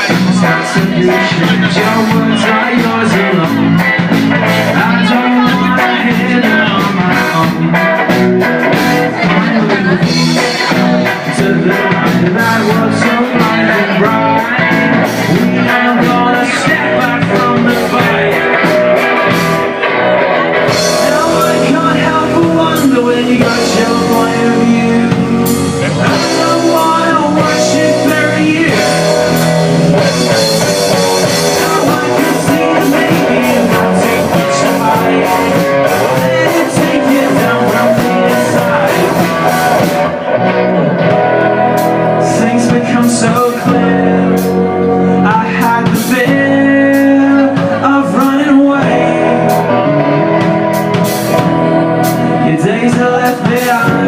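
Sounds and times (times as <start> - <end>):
person singing: 0.0 - 54.0
rock band playing: 0.0 - 54.0.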